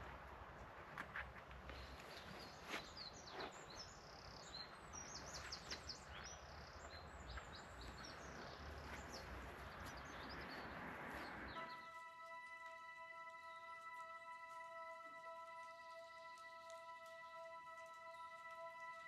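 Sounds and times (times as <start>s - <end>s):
faint outdoor background noise: 0.0s - 19.0s
small birds chirping: 0.0s - 19.0s.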